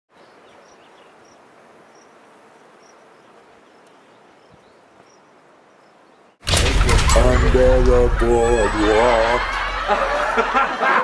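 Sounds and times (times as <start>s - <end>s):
faint outdoor ambience: 0.1s - 11.0s.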